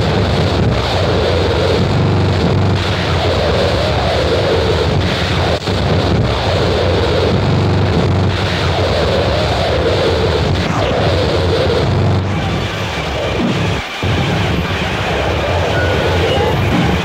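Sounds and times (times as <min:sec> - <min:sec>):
distorted static: 0:00.0 - 0:17.0
heavy low rumble: 0:00.0 - 0:17.0
wavering mid-pitched drone: 0:00.0 - 0:17.0.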